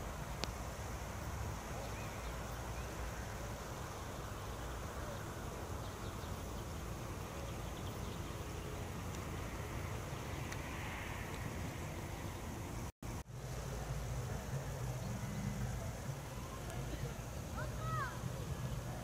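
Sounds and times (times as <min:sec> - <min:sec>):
even hiss: 0:00.0 - 0:19.0.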